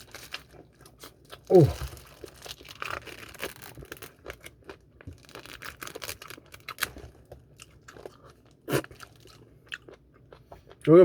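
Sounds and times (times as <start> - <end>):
crispy chicken being chewed: 0.0 - 11.0.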